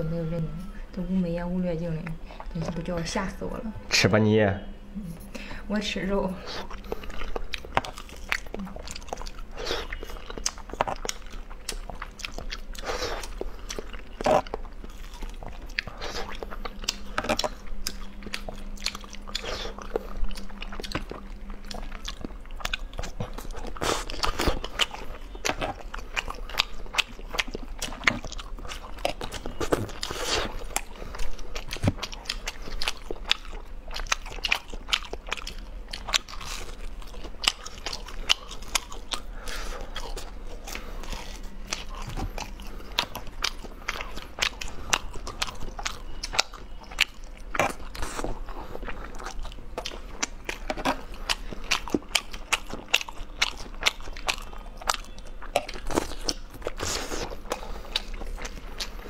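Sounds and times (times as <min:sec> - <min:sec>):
crunchy bites and chewing: 0:06.6 - 0:59.0.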